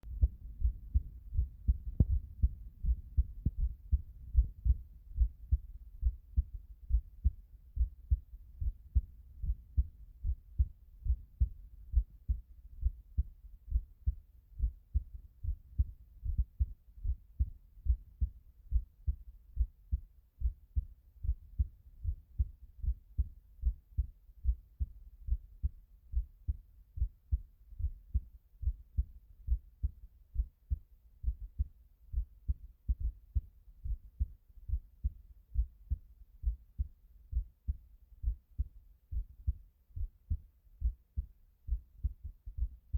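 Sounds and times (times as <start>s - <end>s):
heartbeat thumps: 0.0s - 42.9s.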